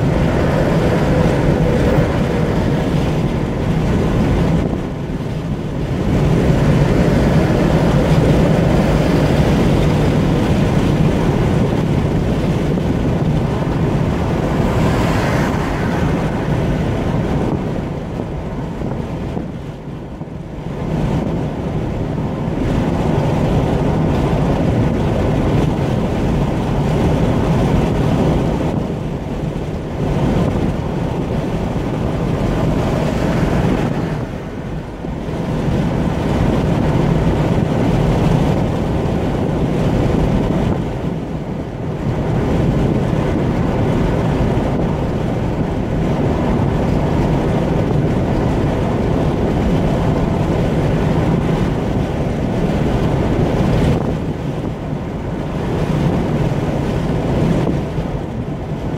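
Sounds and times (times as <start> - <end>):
tyre roar on asphalt: 0.0 - 58.9
wind noise: 0.0 - 58.9.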